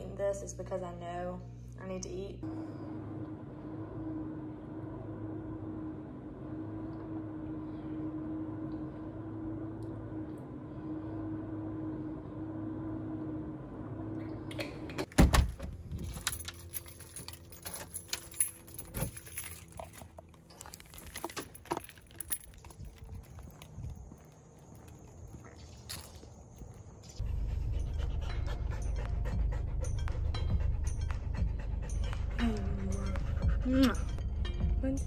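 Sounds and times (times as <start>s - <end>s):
room hum with low tone: 0.0s - 31.1s.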